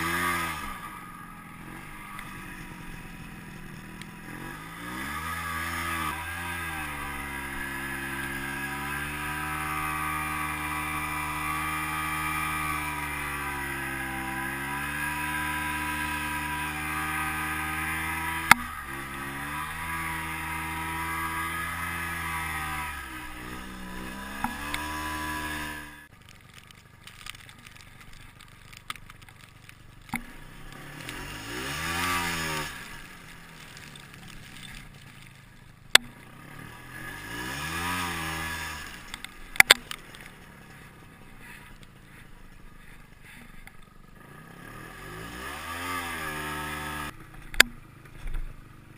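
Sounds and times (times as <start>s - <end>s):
snowmobile engine revving: 0.0s - 26.1s, 30.1s - 35.3s, 35.9s - 47.6s.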